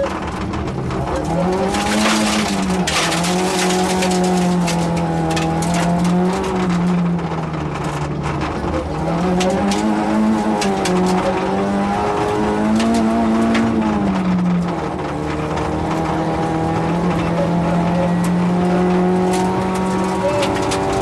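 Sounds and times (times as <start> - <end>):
car engine at speed: 0.0 - 21.0.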